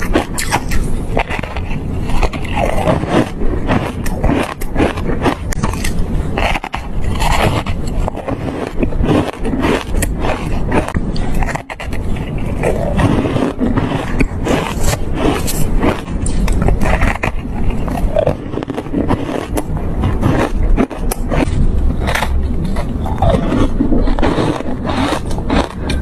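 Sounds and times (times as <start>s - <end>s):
ice being crunched by teeth: 0.0s - 26.0s.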